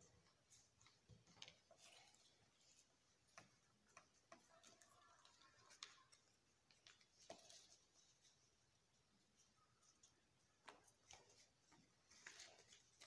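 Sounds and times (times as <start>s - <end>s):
paper rustling and crinkling: 0.2s - 13.0s.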